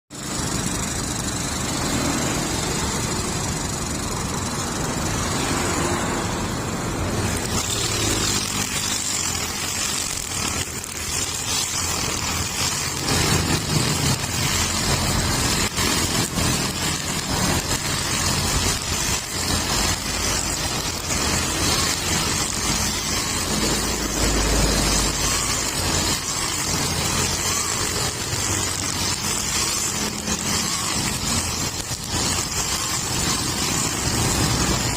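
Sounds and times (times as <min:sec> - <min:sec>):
string trimmer engine running: 0:00.1 - 0:34.9.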